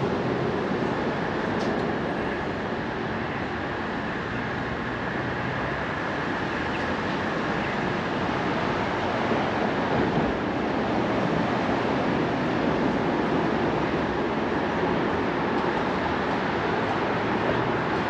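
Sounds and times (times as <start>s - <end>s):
city street traffic rushing: 0.0s - 18.0s.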